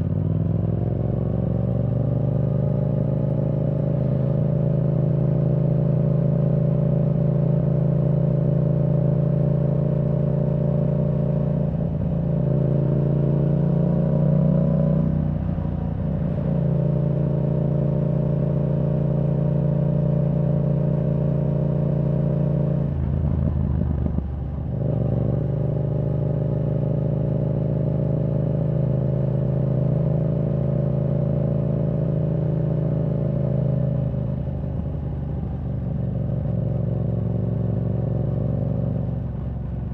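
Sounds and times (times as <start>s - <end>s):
motorcycle engine at cruising revs: 0.0s - 39.9s.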